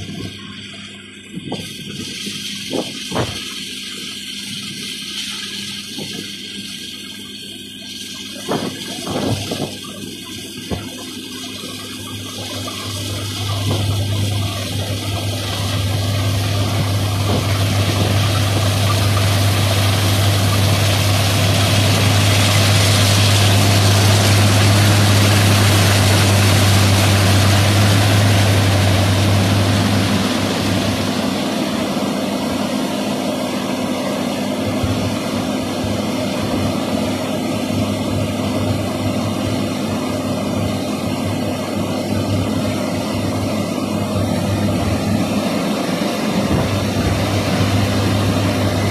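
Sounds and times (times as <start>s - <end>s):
combine harvester engine hum: 0.0s - 48.9s
broad rushing noise: 7.8s - 48.9s.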